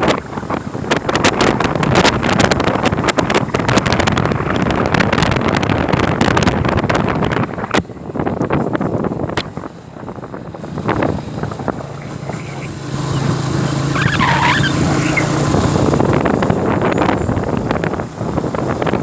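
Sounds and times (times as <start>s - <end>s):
motorbike engine humming: 0.0s - 19.0s
road noise: 0.0s - 19.0s
wind noise on microphone: 0.0s - 19.0s.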